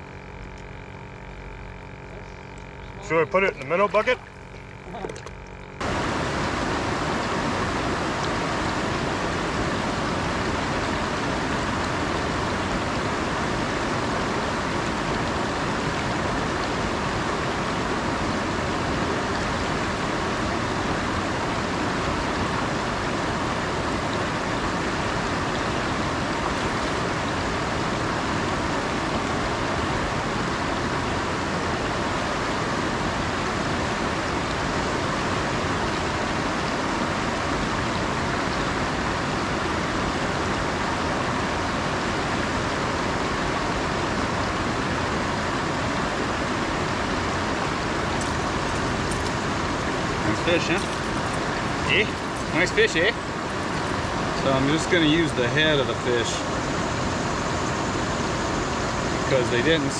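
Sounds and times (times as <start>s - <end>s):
stream rushing over rocks: 5.8s - 59.9s.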